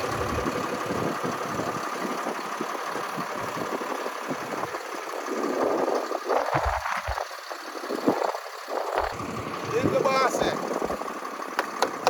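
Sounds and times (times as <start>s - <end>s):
wind buffeting microphone: 0.0s - 11.1s
truck engine idling: 0.0s - 12.0s.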